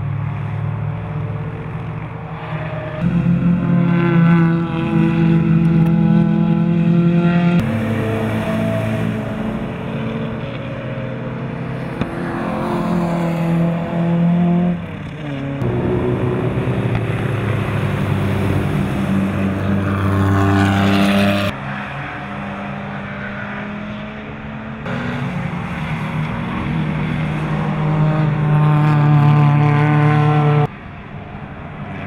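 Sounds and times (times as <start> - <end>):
race car engine accelerating: 2.9 - 30.7.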